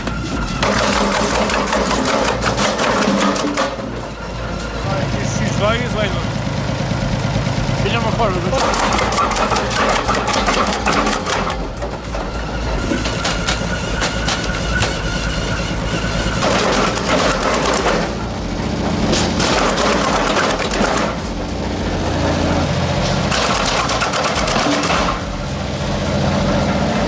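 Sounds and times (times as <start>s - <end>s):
material crunching and rattling: 0.0s - 27.0s
shredding machine engine drone: 0.0s - 27.0s.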